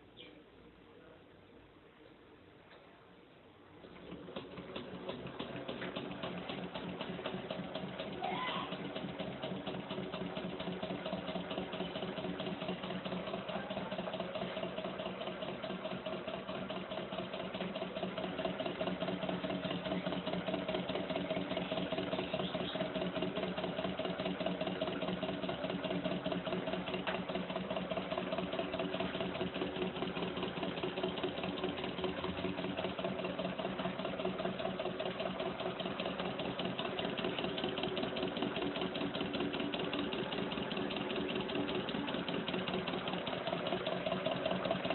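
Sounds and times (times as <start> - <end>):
engine mechanical clatter: 3.8 - 44.9.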